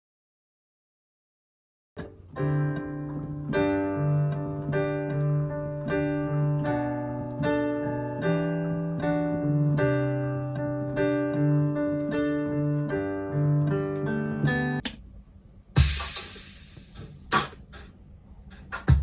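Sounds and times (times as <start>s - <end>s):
piano chords: 2.0s - 19.0s.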